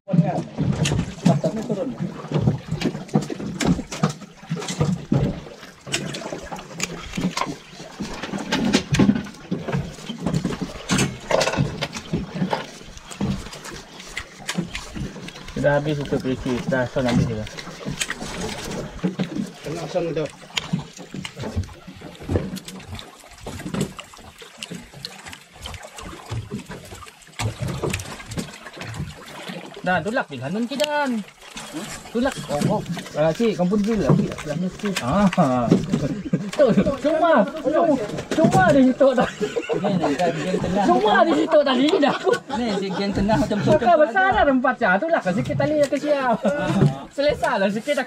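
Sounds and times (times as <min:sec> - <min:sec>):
knocks and clatter on boat deck: 0:00.1 - 0:30.2, 0:30.8 - 0:47.7.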